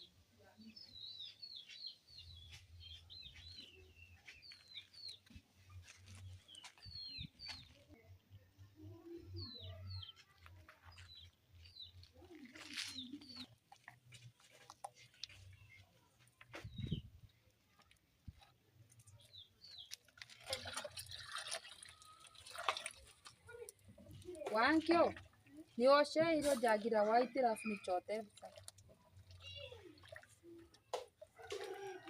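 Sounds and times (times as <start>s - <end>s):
faint birdsong chirps: 0.0s - 22.6s, 24.8s - 32.0s.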